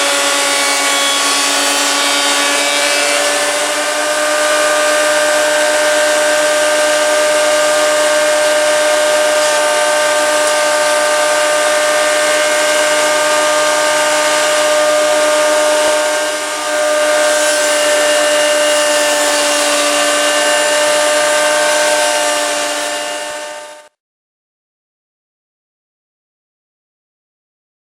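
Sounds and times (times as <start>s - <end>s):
planer motor whining: 0.0s - 23.9s.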